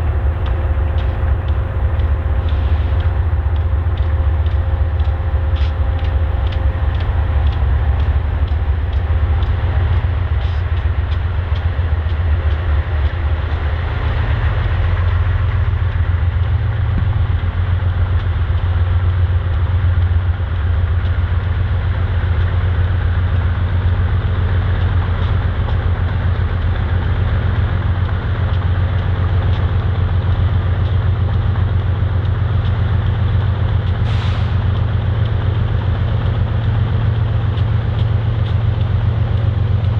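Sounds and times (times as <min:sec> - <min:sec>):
train engine drone: 0:00.0 - 0:39.9
train wheel clicks: 0:00.0 - 0:39.9.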